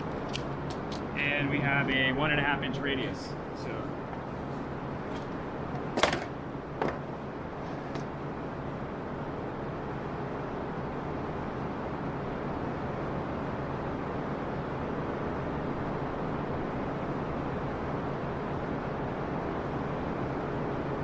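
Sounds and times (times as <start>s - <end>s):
steady rushing fan noise: 0.0s - 21.0s.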